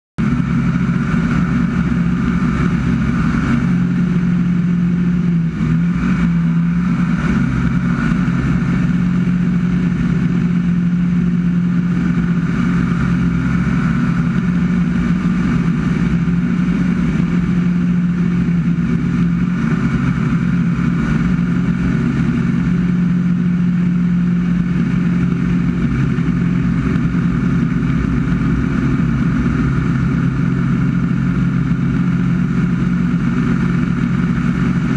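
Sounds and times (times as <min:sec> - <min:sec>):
propeller plane engine drone: 0:00.2 - 0:34.9.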